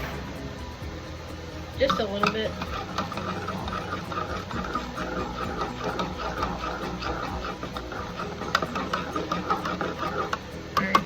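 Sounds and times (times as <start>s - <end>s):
spoon stirring in water: 0.9s - 10.9s.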